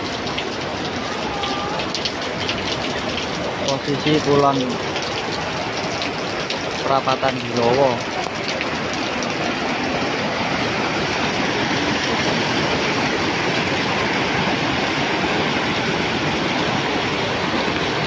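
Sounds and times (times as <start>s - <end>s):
flood water rushing: 0.0s - 18.0s.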